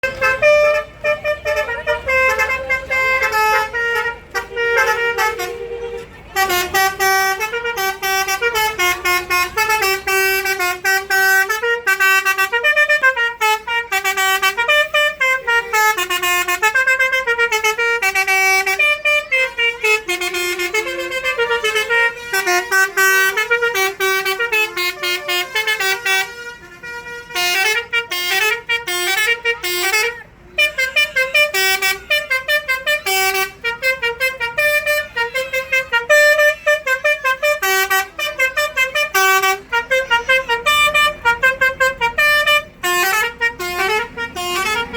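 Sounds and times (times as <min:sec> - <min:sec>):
musical air horns: 0:00.0 - 0:44.9.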